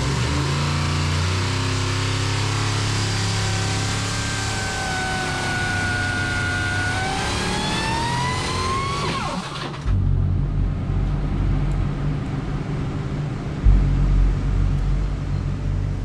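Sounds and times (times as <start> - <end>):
engine revving and rumbling: 0.0 - 16.0.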